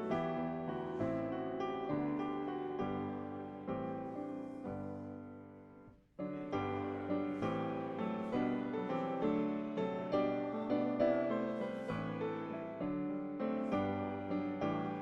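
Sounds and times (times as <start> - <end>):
piano playing hymn chords: 0.0 - 5.6, 6.2 - 15.0.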